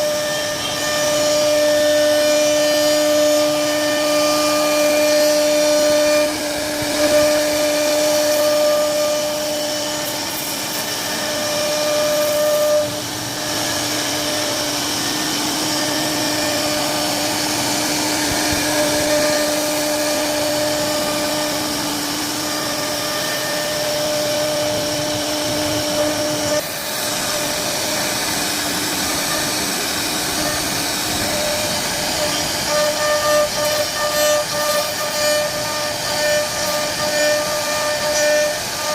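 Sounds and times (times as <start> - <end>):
cutter hissing in wood: 0.0 - 38.9
router spindle whine: 0.0 - 38.9.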